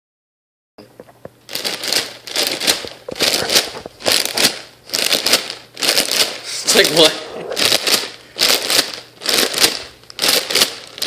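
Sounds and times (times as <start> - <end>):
cereal rattling in plastic bag: 1.5 - 11.0.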